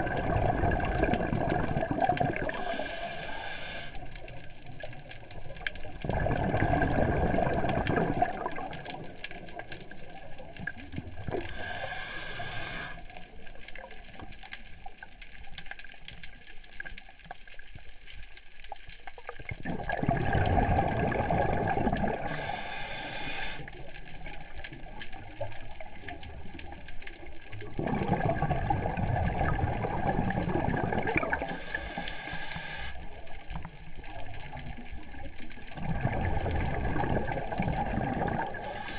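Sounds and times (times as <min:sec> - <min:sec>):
exhaled bubbles underwater: 0:00.0 - 0:17.0, 0:19.1 - 0:38.9.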